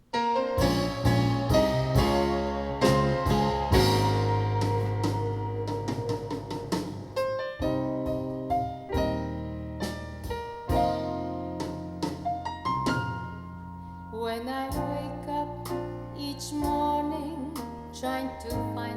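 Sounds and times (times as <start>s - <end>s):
piano music over loudspeakers: 0.0s - 18.9s.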